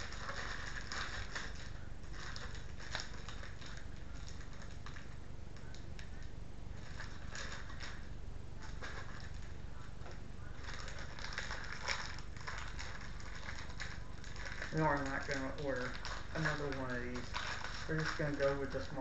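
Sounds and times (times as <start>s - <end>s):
plastic bag crinkling: 0.0s - 19.0s
steady low hum: 0.0s - 19.0s.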